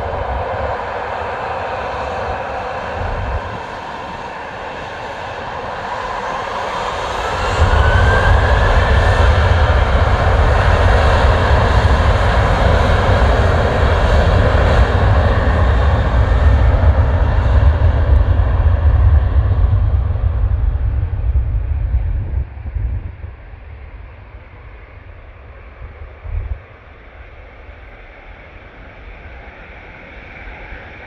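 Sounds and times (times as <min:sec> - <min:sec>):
heavy deep rumble: 0:00.0 - 0:30.9
jet engine whine rising: 0:00.0 - 0:31.0
jet engines roaring: 0:00.0 - 0:31.0.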